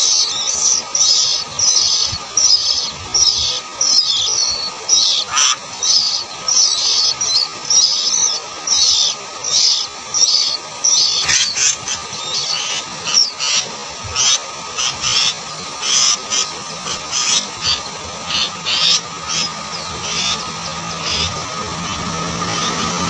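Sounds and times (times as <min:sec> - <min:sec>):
nestlings begging calls: 0:00.0 - 0:23.0.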